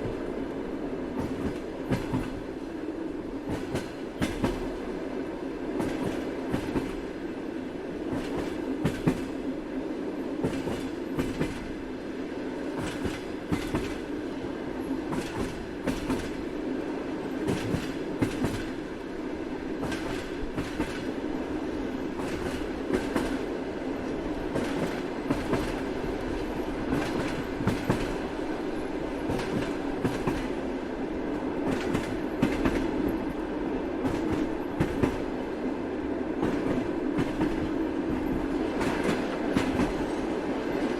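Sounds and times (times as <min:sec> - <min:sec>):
train rumbling: 0:00.0 - 0:40.9.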